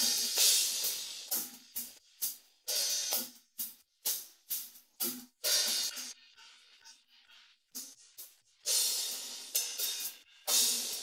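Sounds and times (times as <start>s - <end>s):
sharp cymbal and hi-hat strokes: 0.0s - 11.0s.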